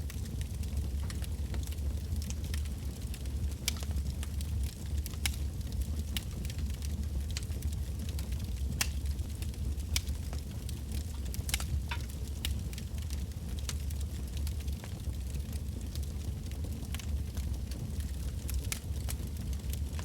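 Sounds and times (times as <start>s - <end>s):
campfire rumble: 0.0s - 20.0s
firewood crackling and popping: 0.0s - 20.0s.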